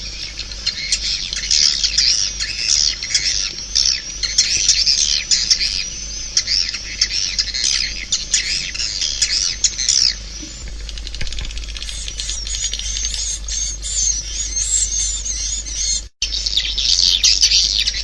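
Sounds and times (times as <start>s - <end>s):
swiftlets chirping and chattering: 0.0s - 16.1s.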